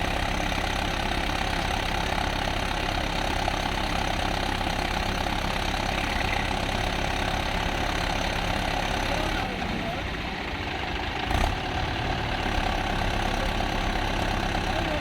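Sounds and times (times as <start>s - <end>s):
tractor diesel engine chugging: 0.0s - 15.0s.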